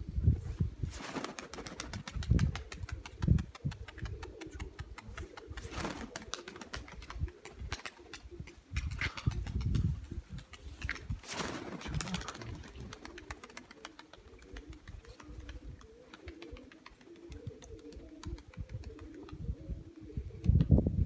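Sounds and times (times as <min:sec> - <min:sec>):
pigeons cooing: 0:01.1 - 0:20.6.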